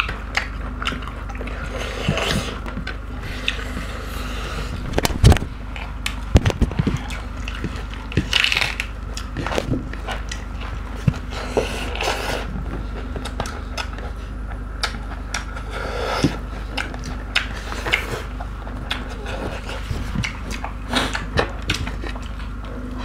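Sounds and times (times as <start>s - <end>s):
people chewing food: 0.0s - 23.0s.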